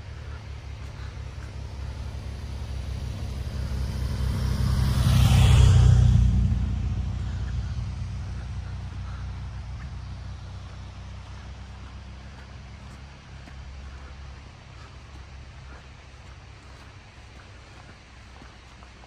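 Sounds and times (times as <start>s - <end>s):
car passing by: 0.0s - 19.0s
steady low rumble: 0.0s - 19.0s.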